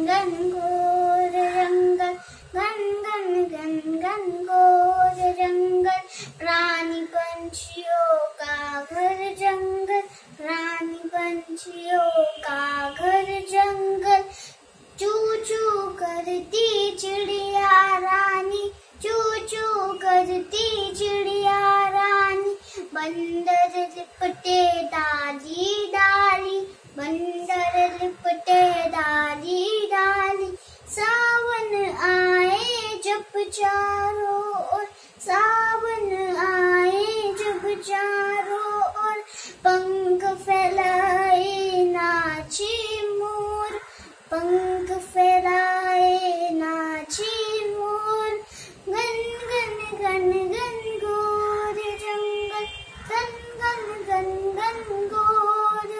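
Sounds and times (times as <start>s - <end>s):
girl singing: 0.0s - 55.9s.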